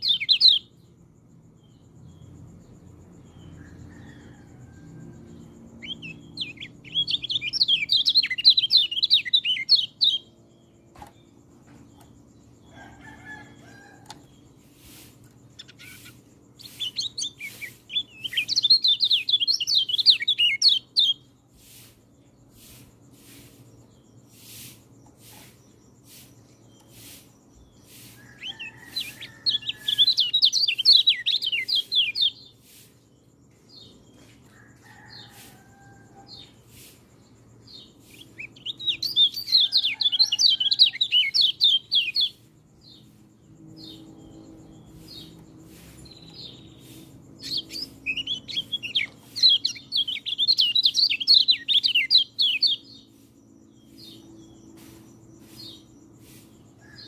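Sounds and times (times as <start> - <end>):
bird twittering song: 0.0 - 35.3, 37.2 - 57.0.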